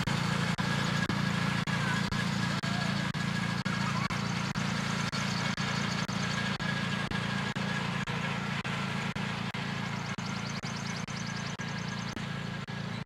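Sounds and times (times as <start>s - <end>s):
lawnmower engine running: 0.0s - 13.0s.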